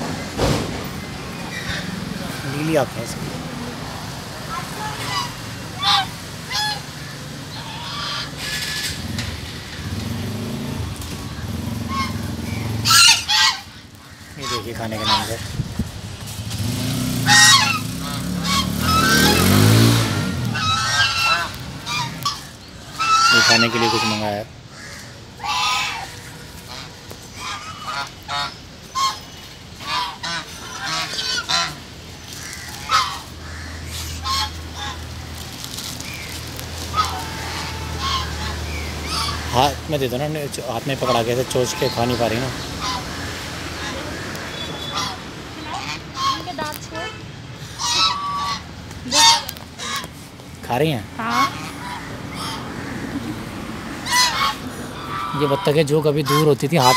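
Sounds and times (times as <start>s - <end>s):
geese honking: 1.2s - 15.8s, 17.2s - 56.9s.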